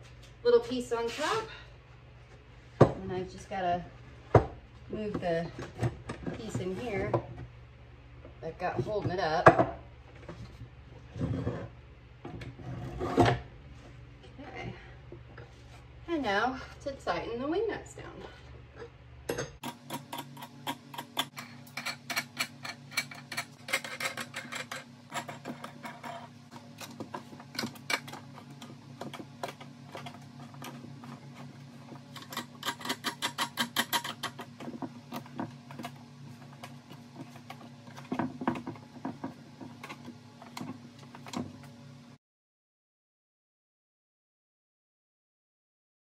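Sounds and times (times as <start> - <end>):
steady low hum: 0.0 - 42.2.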